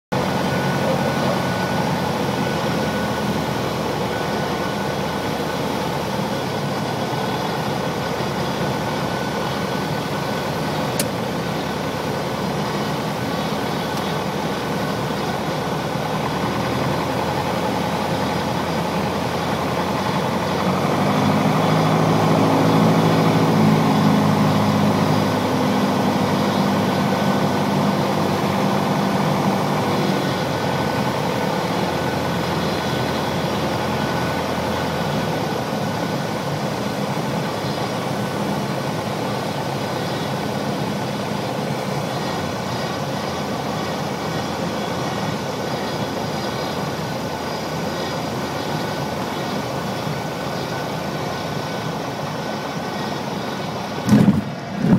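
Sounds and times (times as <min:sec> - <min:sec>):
propeller plane engine droning: 0:00.1 - 0:54.9.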